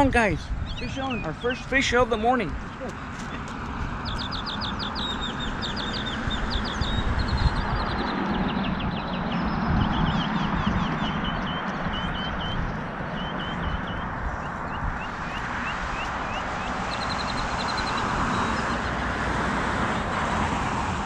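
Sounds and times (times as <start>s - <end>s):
songbird chirping: 0.0s - 18.9s
rushing background noise: 0.0s - 21.0s.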